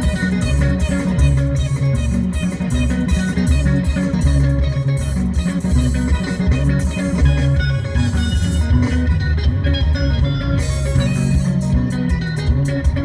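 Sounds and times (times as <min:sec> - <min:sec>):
guitar music with bass and beat: 0:00.0 - 0:13.0.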